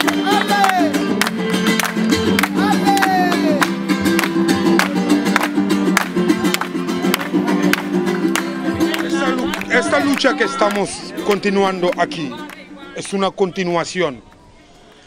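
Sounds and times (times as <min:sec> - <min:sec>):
acoustic guitars strummed: 0:00.0 - 0:13.1.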